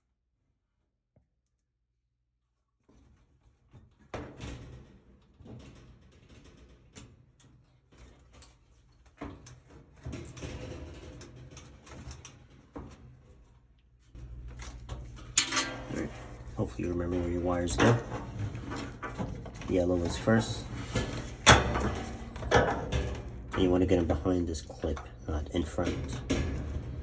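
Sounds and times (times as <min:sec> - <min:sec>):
sheet metal parts knocking and rattling: 0:03.8 - 0:13.6, 0:14.2 - 0:27.0.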